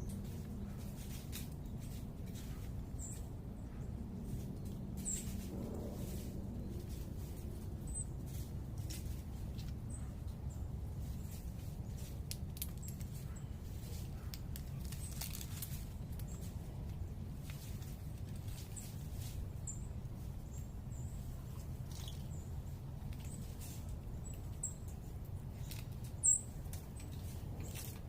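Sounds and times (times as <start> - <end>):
low city rumble: 0.0 - 28.0.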